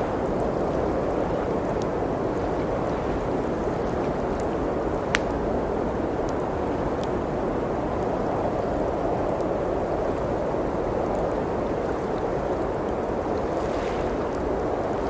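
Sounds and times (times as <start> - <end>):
blizzard wind: 0.0 - 15.0
wood fire crackling: 0.0 - 15.0.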